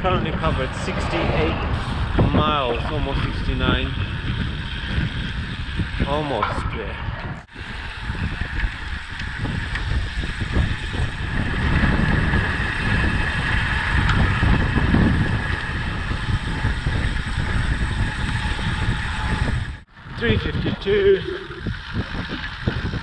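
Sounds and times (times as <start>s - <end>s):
bicycle tyre road noise: 0.0s - 23.0s
wind buffeting microphone: 0.0s - 23.0s.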